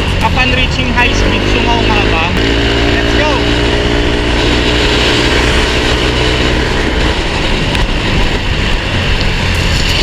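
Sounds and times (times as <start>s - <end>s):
scooter engine drone: 0.0s - 10.0s
wind noise: 0.0s - 10.0s.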